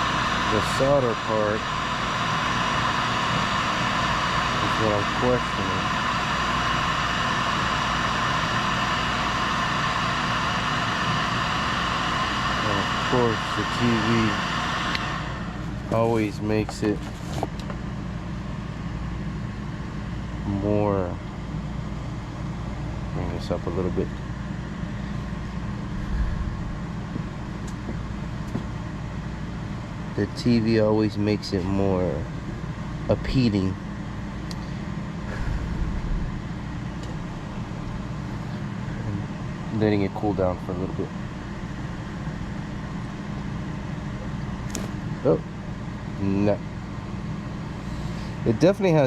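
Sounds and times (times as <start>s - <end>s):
faint motor hum: 0.0s - 49.0s.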